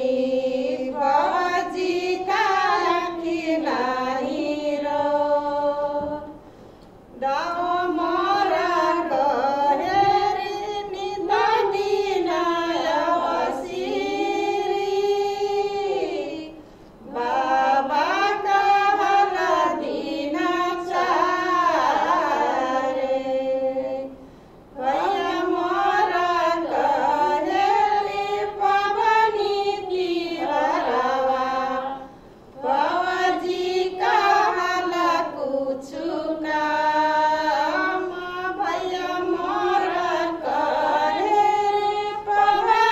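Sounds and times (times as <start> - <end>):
women singing unaccompanied: 0.0 - 6.4, 7.1 - 42.9.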